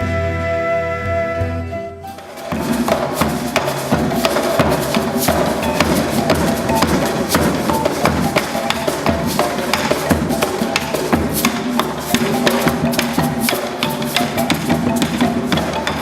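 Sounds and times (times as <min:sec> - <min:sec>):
hand-percussion music: 0:01.0 - 0:16.0.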